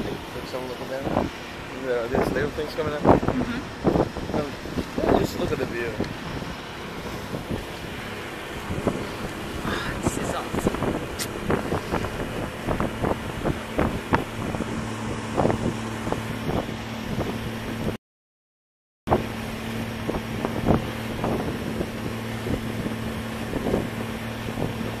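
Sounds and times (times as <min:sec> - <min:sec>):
motorboat engine running: 0:00.0 - 0:18.0, 0:19.1 - 0:25.0
wind buffeting microphone: 0:00.0 - 0:18.0, 0:19.1 - 0:25.0.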